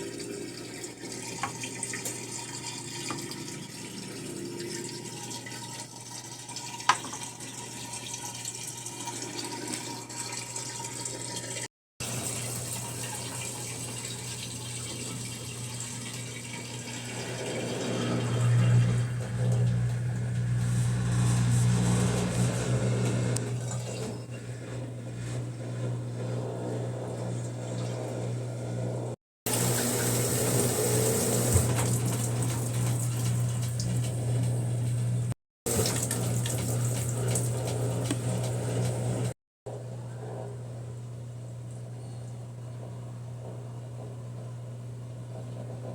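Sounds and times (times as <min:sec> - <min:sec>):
water rushing into washing machine: 0:00.0 - 0:39.4
washing machine hum: 0:00.0 - 0:45.9.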